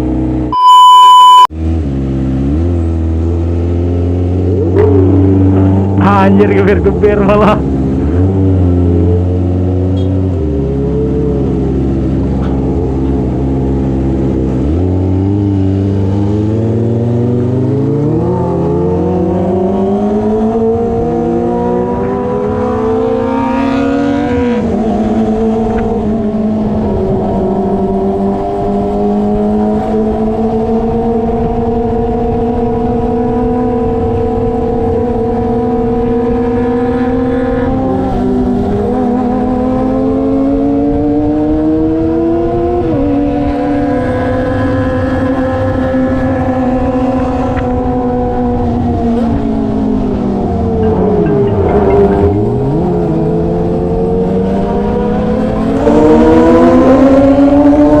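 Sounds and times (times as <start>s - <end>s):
motorcycle engine accelerating: 1.3s - 58.0s.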